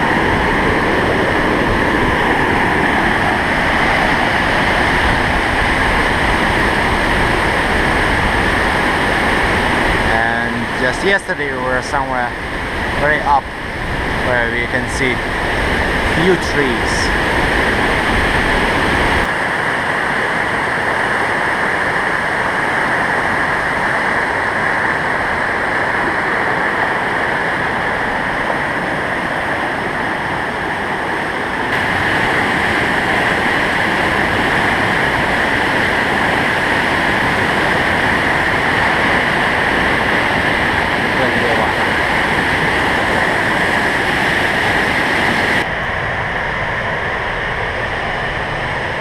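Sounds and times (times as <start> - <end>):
large waterfall rushing: 0.0 - 49.0.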